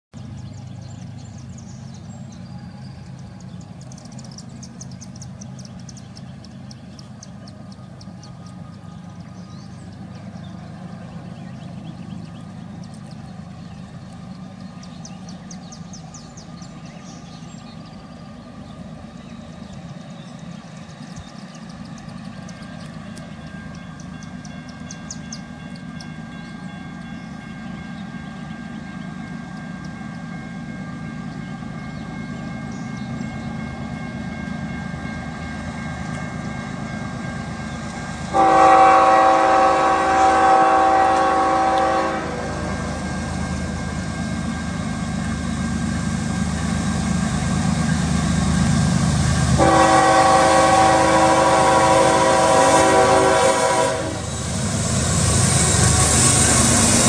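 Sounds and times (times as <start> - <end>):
birds chirping trills: 0.2 - 57.0
distant freight train rumble: 0.2 - 57.0.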